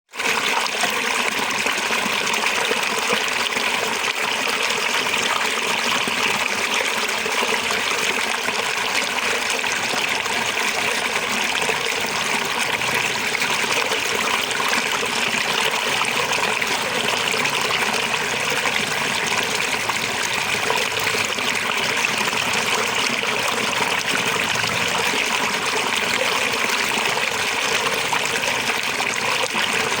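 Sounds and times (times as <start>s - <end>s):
water splashing over rocks: 0.1s - 30.0s.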